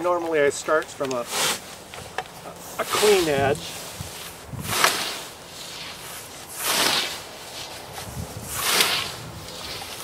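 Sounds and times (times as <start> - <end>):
scythe swishing through grass: 1.2 - 1.9, 2.6 - 10.0.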